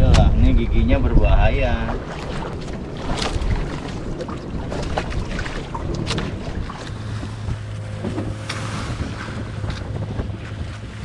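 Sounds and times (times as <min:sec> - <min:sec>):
wind on microphone: 0:00.0 - 0:11.0
water splashing against hull: 0:01.3 - 0:11.0
boat engine humming: 0:01.8 - 0:11.0.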